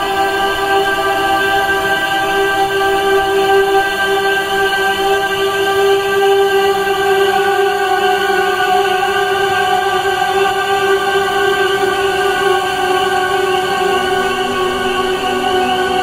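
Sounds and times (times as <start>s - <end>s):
ambient music drone: 0.0s - 16.0s.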